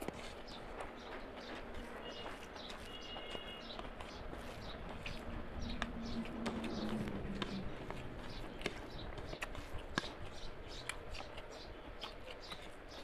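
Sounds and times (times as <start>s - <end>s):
chewing and lip smacks: 0.0s - 13.0s
wet squishing of food by hand: 1.7s - 13.0s.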